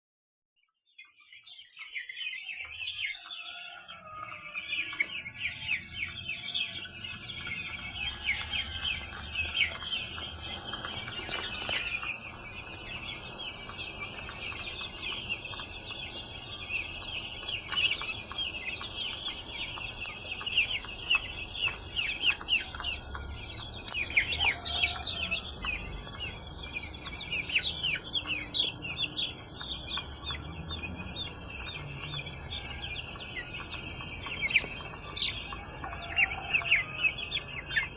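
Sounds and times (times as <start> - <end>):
chicks peeping: 0.9 - 37.9.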